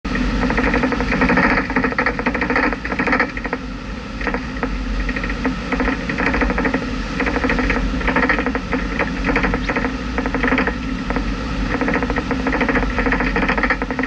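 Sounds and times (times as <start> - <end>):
fast rattling clatter: 0.2 - 3.6, 4.2 - 14.0.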